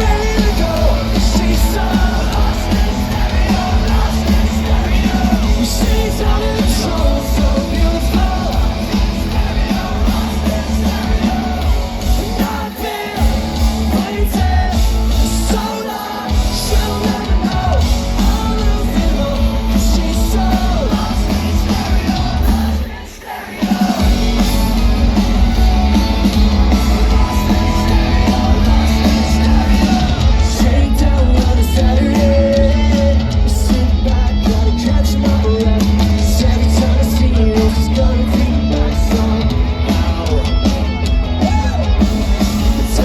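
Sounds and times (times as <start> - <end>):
loud drums: 0.0 - 43.0
pop-punk band playing live: 0.0 - 43.0
sung lead vocal: 0.0 - 43.0.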